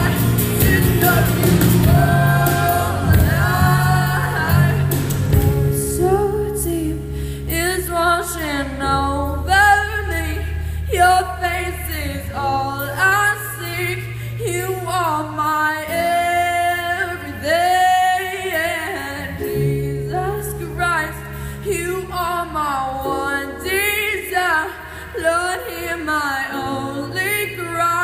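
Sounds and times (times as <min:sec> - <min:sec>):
electronic keyboard chords: 0:00.0 - 0:28.0.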